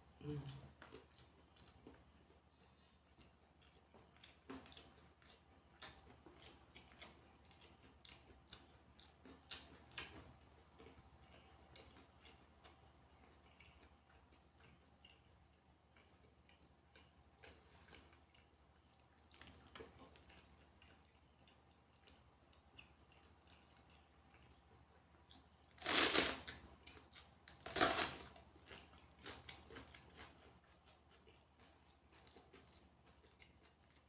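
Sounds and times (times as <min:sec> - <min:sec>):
quiet chewing: 0:00.1 - 0:34.0.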